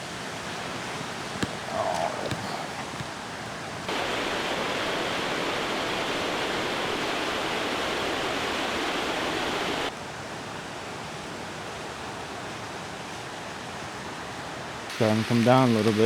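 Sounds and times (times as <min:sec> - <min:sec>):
rushing water: 0:00.0 - 0:14.8.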